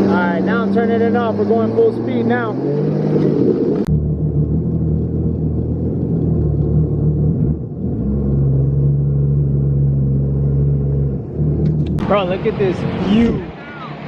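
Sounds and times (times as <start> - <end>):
jet ski engine droning: 0.0 - 14.0.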